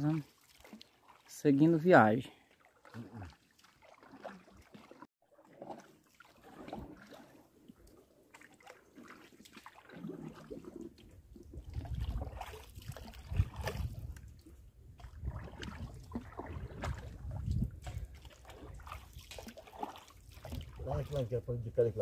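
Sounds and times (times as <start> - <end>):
paddle splashing water: 0.0 - 21.9.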